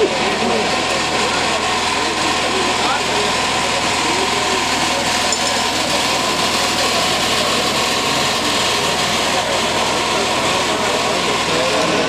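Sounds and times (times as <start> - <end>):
power generator running: 0.0 - 12.0.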